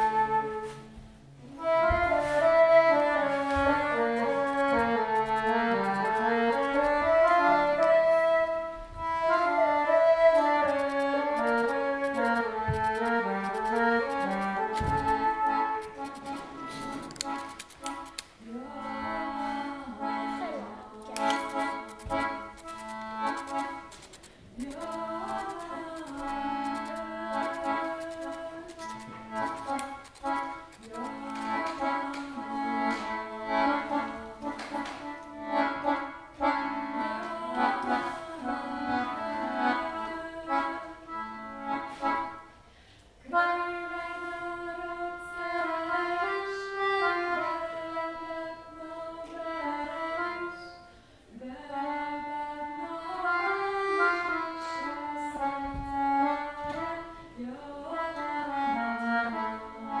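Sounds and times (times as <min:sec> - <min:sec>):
accordion playing chords: 0:00.0 - 1:00.0.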